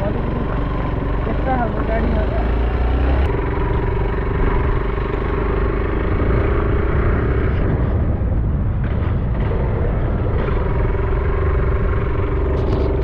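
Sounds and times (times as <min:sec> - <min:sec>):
hum: 0:00.0 - 0:13.0
motorcycle engine rumble: 0:00.0 - 0:13.0.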